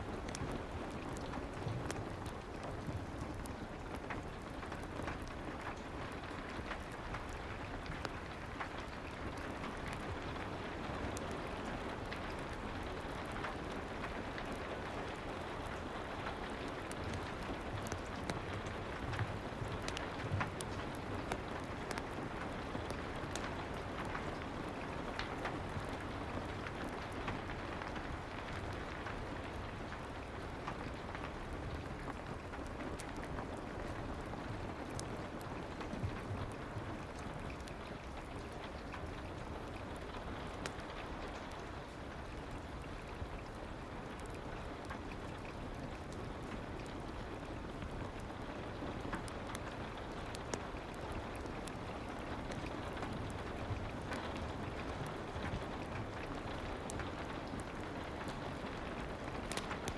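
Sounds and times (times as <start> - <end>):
fireplace crackling: 0.0 - 59.9
soft rain: 0.0 - 59.9.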